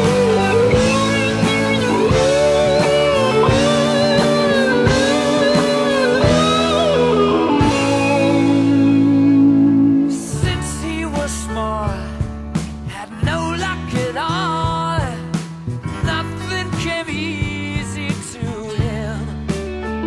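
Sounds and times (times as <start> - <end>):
rock music with bending guitar: 0.0 - 20.0.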